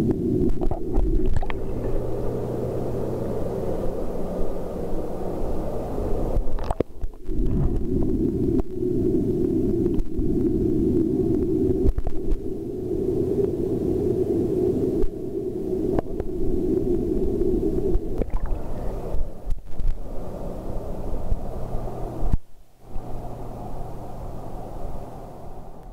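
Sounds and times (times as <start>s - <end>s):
muffled underwater rumble: 0.0s - 25.7s.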